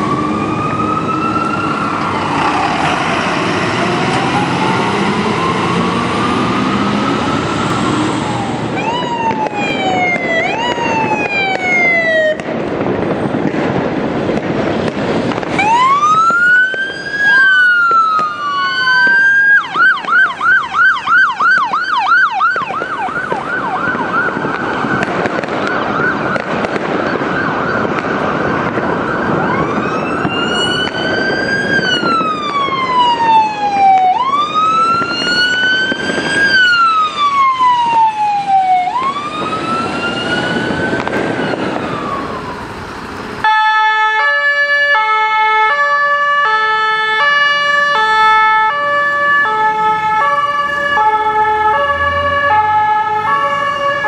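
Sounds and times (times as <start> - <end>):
diesel engine rumble: 0.0 - 43.5
fire engine sirens: 0.0 - 54.0.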